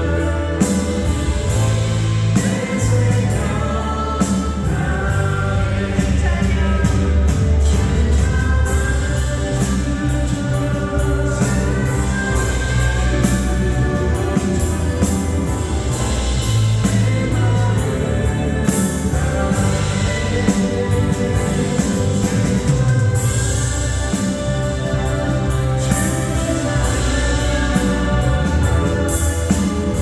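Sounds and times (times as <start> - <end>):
band playing worship song: 0.0 - 30.0
person singing: 0.0 - 30.0
steady drum beat: 0.0 - 30.0.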